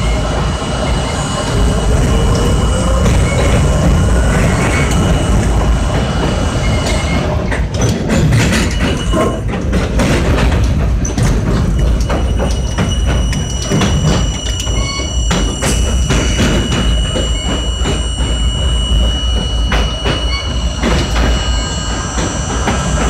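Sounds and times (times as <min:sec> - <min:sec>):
high wheel squeals: 0:00.0 - 0:07.6, 0:11.7 - 0:23.0
subway car rumble: 0:00.0 - 0:23.0
wheels clattering over rail joints: 0:02.0 - 0:23.0.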